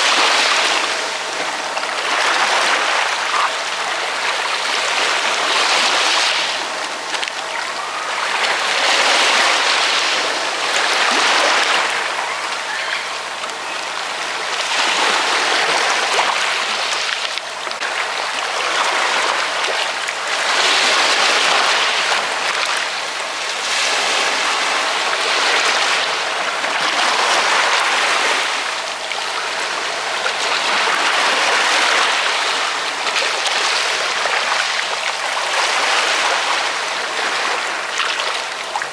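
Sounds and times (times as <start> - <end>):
ocean waves washing onto shore: 0.0 - 38.9.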